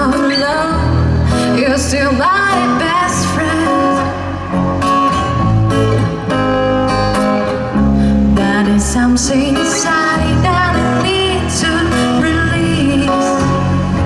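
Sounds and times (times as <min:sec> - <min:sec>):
guitar and bass playing: 0:00.0 - 0:14.0.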